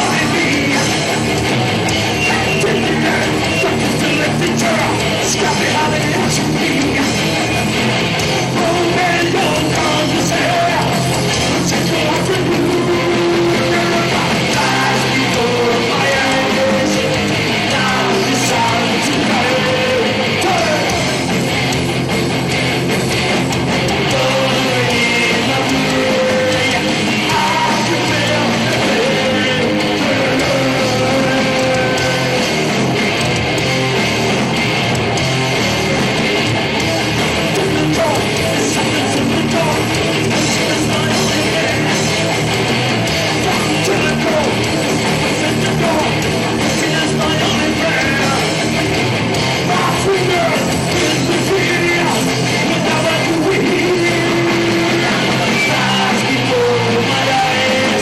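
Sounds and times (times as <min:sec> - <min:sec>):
distorted electric guitars: 0:00.0 - 0:58.0
heavy metal band playing: 0:00.0 - 0:58.0.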